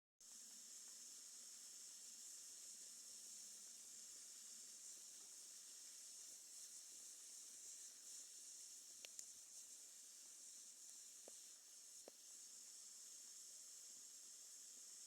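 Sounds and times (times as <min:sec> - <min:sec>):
campfire hissing: 0:00.2 - 0:15.0.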